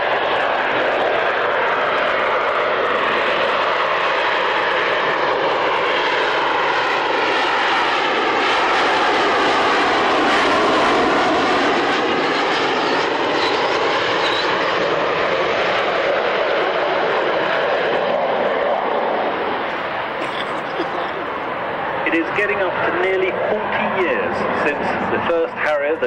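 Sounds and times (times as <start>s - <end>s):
aircraft engine flypast: 0.0s - 26.0s.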